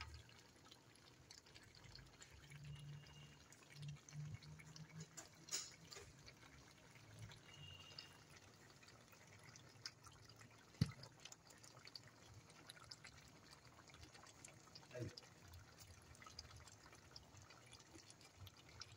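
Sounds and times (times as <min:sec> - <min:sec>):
sauce bubbling in a pot: 0:00.0 - 0:18.9.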